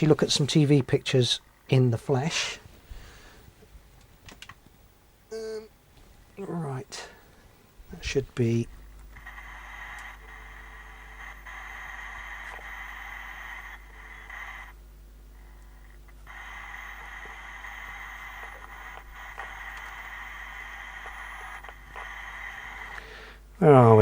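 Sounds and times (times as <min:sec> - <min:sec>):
low mains hum: 0:00.0 - 0:24.0
television static hiss: 0:00.0 - 0:24.0.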